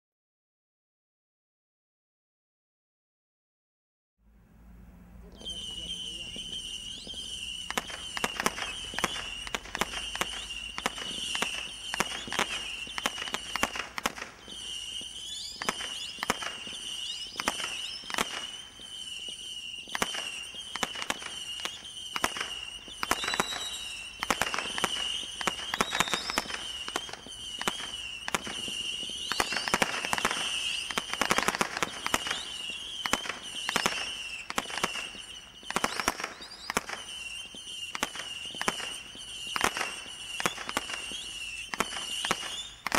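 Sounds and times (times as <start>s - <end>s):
firework bangs: 5.2s - 42.9s
shrill firework whistles: 5.2s - 42.9s.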